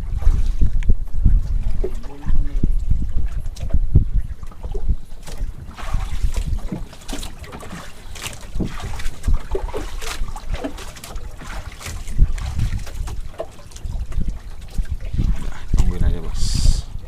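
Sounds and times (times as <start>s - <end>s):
water splashing against hull: 0.0s - 17.0s
wind on microphone: 0.0s - 17.0s.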